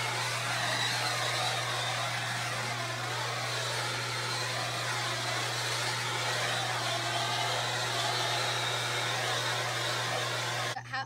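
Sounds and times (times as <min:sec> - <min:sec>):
firework sparks hissing: 0:00.0 - 0:10.8.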